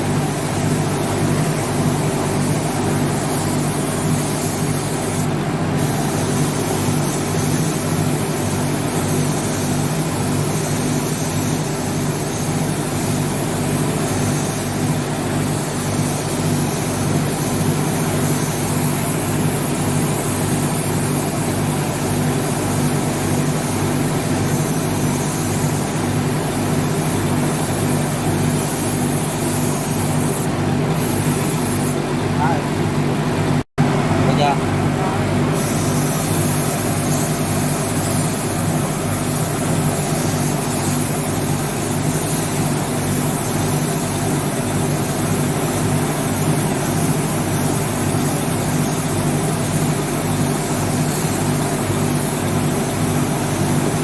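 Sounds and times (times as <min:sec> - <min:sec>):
machine motor humming with hiss: 0:00.0 - 0:32.9, 0:34.9 - 0:54.0.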